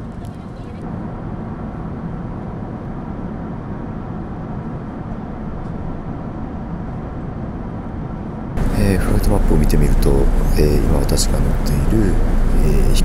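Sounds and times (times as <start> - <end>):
jet engines and airflow rushing: 0.0 - 13.0.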